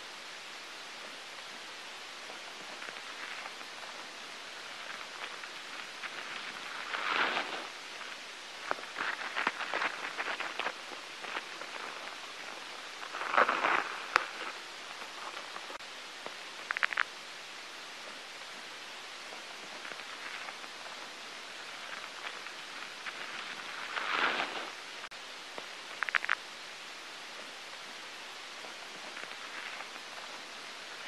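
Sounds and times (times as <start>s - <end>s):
steady hiss: 0.0s - 31.0s
scattered crackles: 0.4s - 31.0s
rustling: 0.9s - 17.2s, 18.0s - 26.5s, 27.2s - 31.0s.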